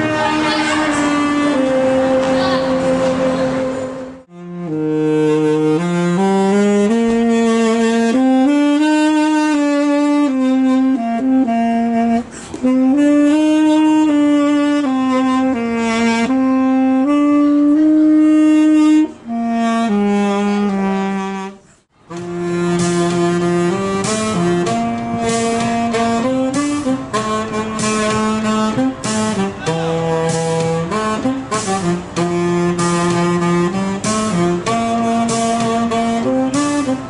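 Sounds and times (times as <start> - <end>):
saxophone slow melody: 0.0 - 37.0.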